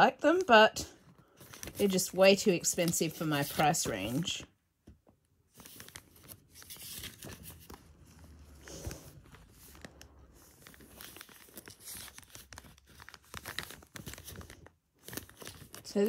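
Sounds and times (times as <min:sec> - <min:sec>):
paper pages rustling: 0:00.3 - 0:16.0.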